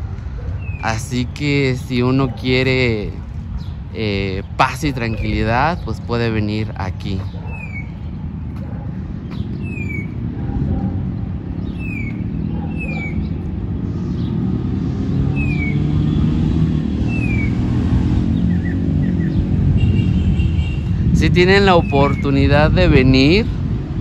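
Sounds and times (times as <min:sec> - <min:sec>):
low rumble of city traffic: 0:00.0 - 0:24.0
bird chirping: 0:00.4 - 0:21.0, 0:21.6 - 0:22.5.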